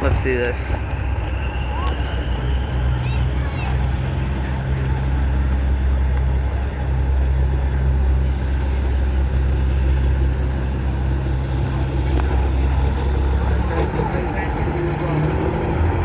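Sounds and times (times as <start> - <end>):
diesel truck engines running: 0.0 - 16.0.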